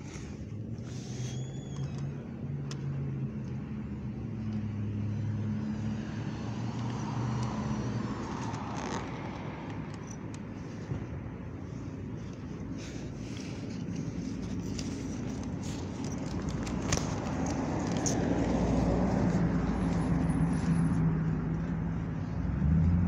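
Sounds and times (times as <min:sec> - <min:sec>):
road noise: 0:00.0 - 0:23.0
vehicle engine humming: 0:00.0 - 0:23.0.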